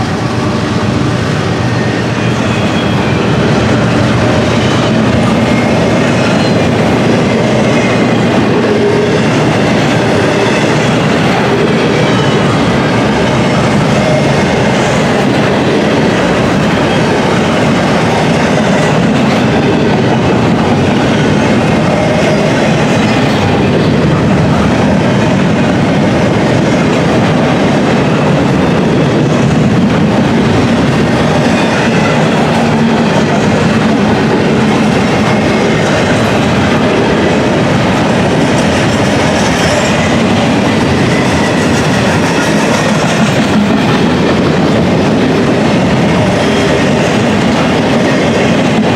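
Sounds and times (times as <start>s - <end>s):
freight train rolling past: 0.0s - 48.9s.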